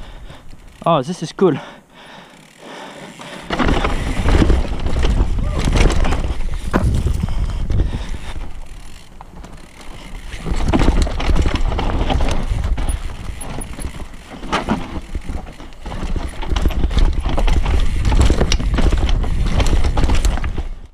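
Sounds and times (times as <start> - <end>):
bike rattling over rocks: 2.4 - 20.9
tyre and ground rumble: 3.0 - 20.9.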